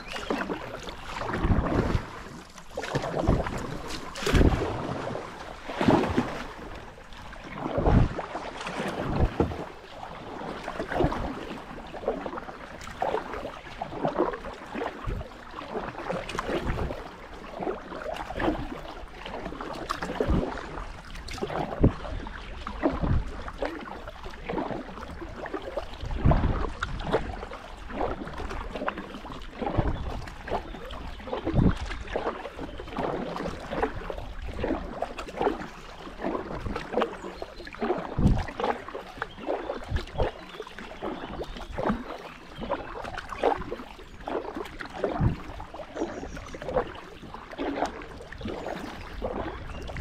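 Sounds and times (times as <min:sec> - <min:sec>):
paddle splashing in water: 0:00.0 - 0:50.0.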